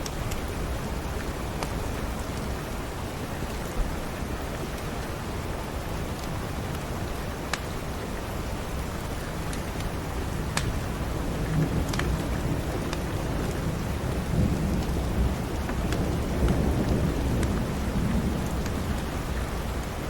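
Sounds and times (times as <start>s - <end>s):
wood fire crackling: 0.0s - 2.6s, 6.0s - 20.0s
steady rain: 0.0s - 20.0s.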